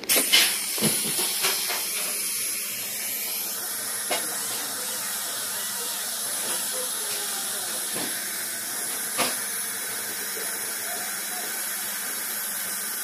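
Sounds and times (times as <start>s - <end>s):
dental suction hissing: 0.0s - 13.0s.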